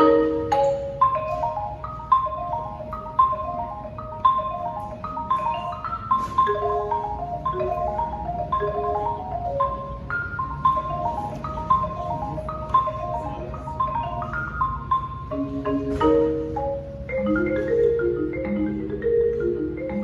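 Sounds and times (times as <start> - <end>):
mallet keyboard instrument: 0.0 - 20.0.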